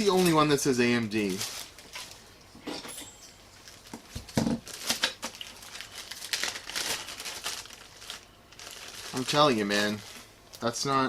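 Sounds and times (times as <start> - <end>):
plastic packaging rustling: 0.0 - 2.3, 3.6 - 11.0.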